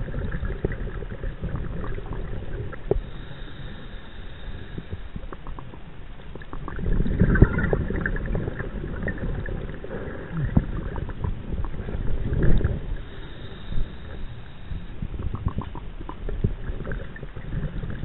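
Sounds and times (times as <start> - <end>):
exhaled bubbles gurgling underwater: 0.0 - 18.0
low underwater rumble: 0.0 - 18.0.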